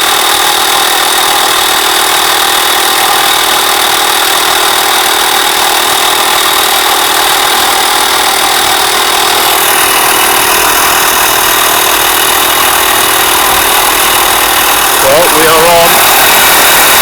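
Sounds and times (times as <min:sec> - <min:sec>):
air compressor running: 0:00.0 - 0:17.0.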